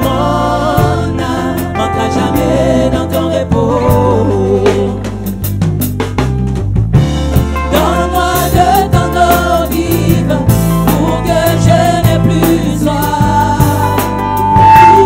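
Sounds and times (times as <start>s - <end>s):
lead singer and choir singing: 0.0s - 5.5s, 7.6s - 15.0s
bass guitar: 0.0s - 15.0s.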